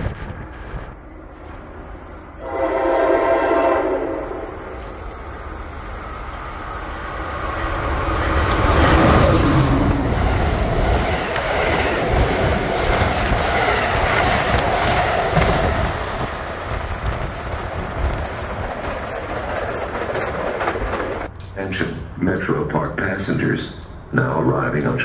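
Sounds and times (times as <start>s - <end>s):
train passing with wheel clatter: 0.0s - 25.0s.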